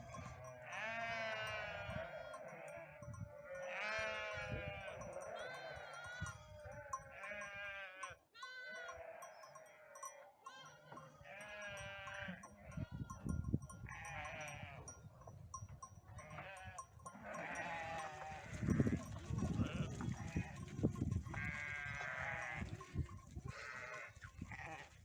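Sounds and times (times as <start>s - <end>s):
sheep bleating: 0.0s - 13.3s, 13.9s - 14.9s, 16.2s - 20.7s, 21.3s - 25.0s.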